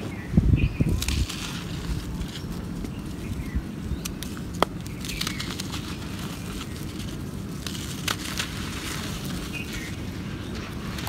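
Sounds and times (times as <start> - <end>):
dry soil crumbling in hands: 0.6 - 11.0.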